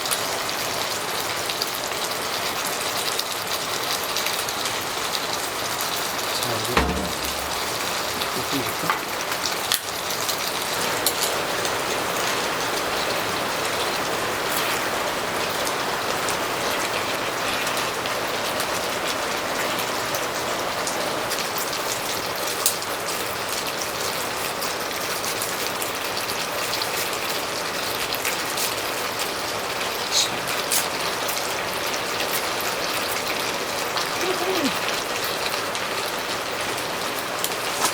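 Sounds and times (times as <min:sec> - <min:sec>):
heavy rain on a tent: 0:00.0 - 0:37.9.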